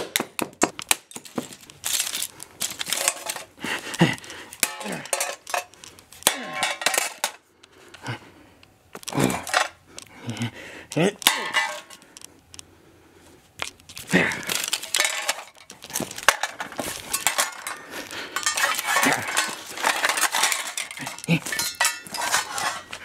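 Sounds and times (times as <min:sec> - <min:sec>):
metal and plastic pieces clattering: 0:00.1 - 0:07.5, 0:09.0 - 0:10.1, 0:10.9 - 0:12.3, 0:13.6 - 0:23.0.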